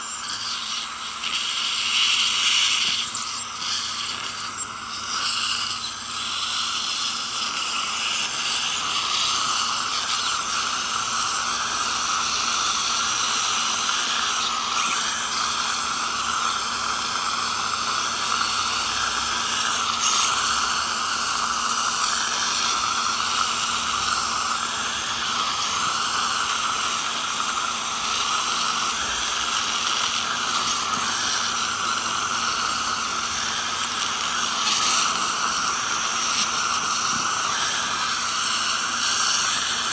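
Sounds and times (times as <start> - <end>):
dental scaler whine: 0.0 - 39.9.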